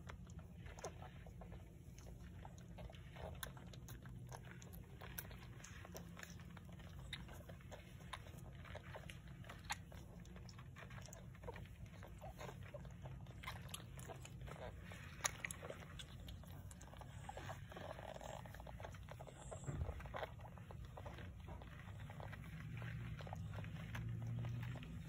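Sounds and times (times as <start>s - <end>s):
low steady hum: 0.0s - 25.0s
puppies suckling smacking: 0.0s - 25.0s.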